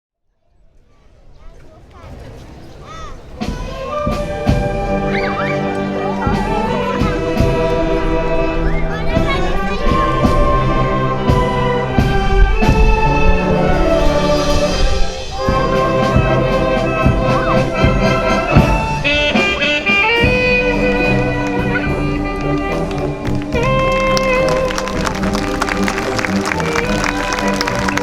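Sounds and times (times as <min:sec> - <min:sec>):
brass held melodic notes: 0:03.4 - 0:28.0.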